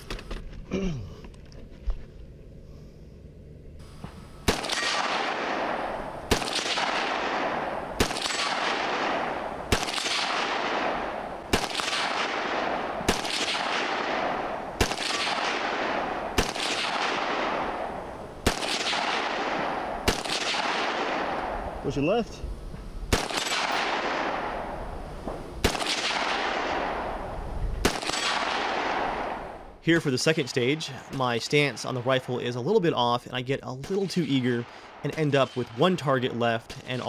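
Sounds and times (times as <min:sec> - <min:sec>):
rifle shots with long echo: 0:03.8 - 0:22.0, 0:23.0 - 0:32.5, 0:33.8 - 0:37.0.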